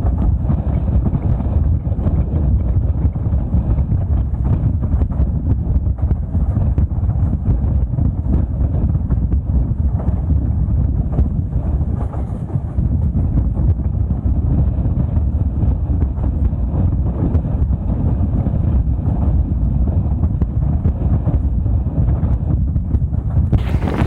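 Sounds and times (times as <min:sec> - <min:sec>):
train rumbling at speed: 0:00.0 - 0:24.0
wind buffeting microphone: 0:00.0 - 0:24.0.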